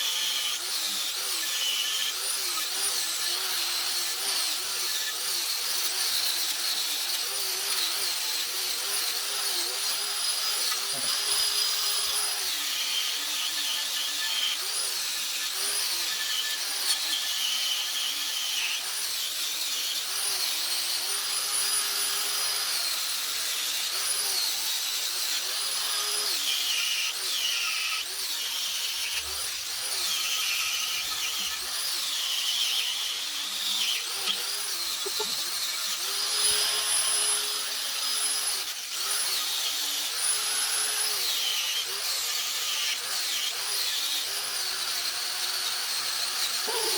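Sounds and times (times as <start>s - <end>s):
power tool motor whining on metal: 0.0s - 46.9s.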